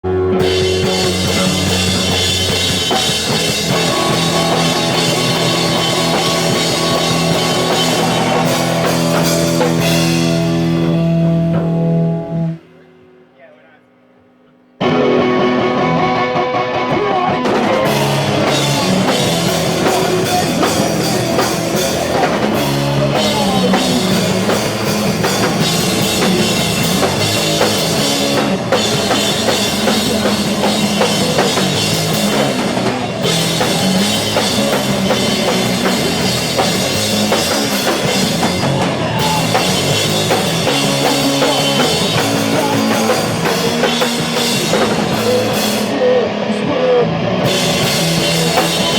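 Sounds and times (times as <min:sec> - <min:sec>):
live band playing: 0:00.0 - 0:12.7, 0:14.8 - 0:48.9.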